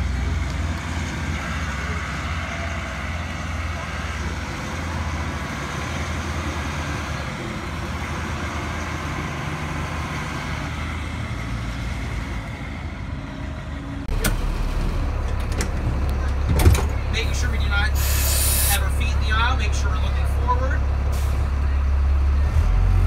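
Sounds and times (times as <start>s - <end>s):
bus diesel engine driving by: 0.0s - 23.0s.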